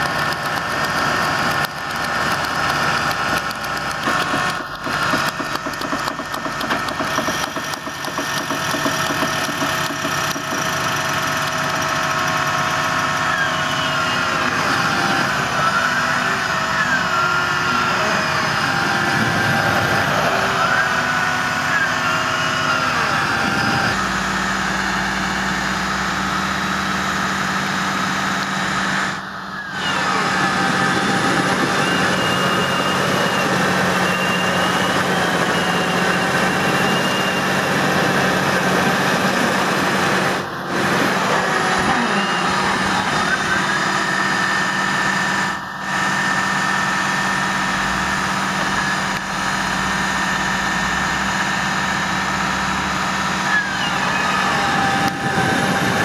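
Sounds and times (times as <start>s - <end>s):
tractor engine straining: 0.0s - 56.0s.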